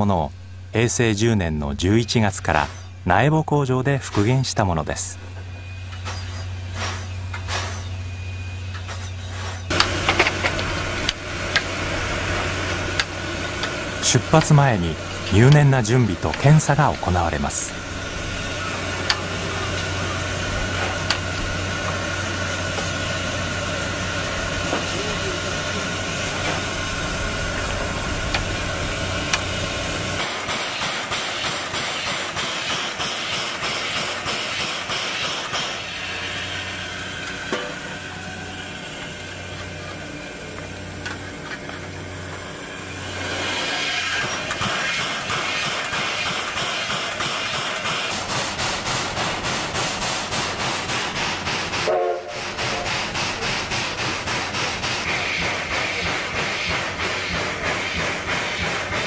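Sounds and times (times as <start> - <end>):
steam locomotive hissing: 9.4 - 59.0.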